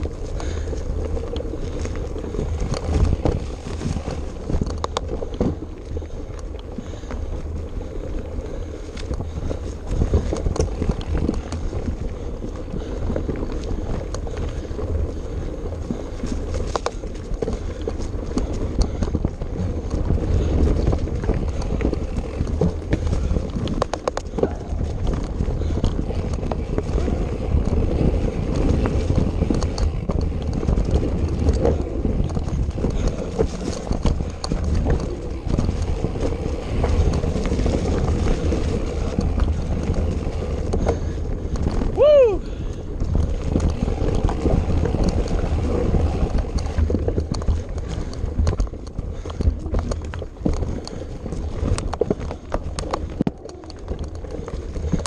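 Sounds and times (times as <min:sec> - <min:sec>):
off-road vehicle engine rumbling: 0:00.0 - 0:55.0
wind buffeting microphone: 0:00.0 - 0:55.0.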